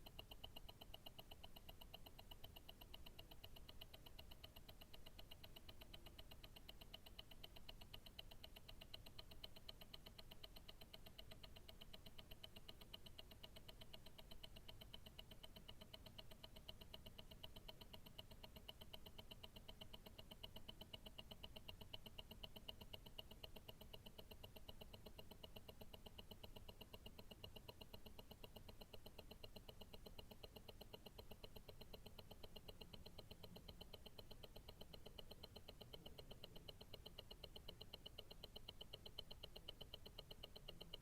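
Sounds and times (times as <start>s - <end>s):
watch ticking: 0.0s - 41.0s.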